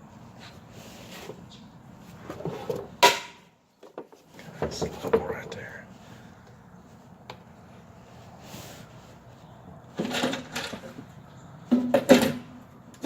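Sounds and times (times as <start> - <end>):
handling knocks and scrapes: 0.2 - 5.7, 6.8 - 13.0.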